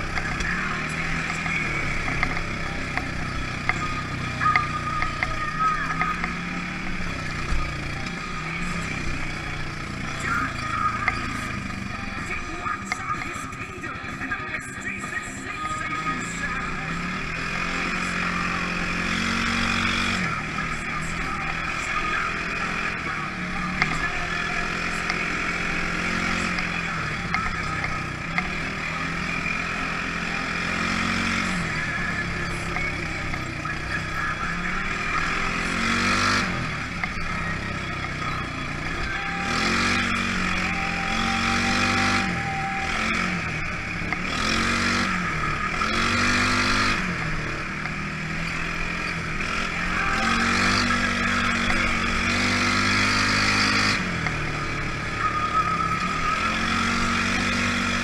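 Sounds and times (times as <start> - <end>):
engine revving under load: 0.0 - 58.0.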